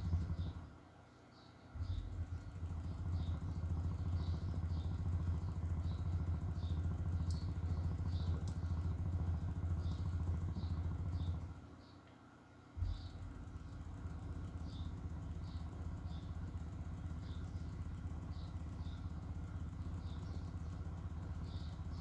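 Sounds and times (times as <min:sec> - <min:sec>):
subwoofer deep buzzy bass tone: 0:00.0 - 0:00.7, 0:01.8 - 0:11.6, 0:12.8 - 0:22.0.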